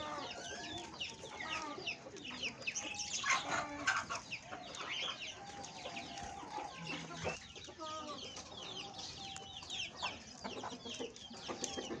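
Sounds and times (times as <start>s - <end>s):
hens clucking: 0.0s - 12.0s
small birds chirping: 0.0s - 12.0s.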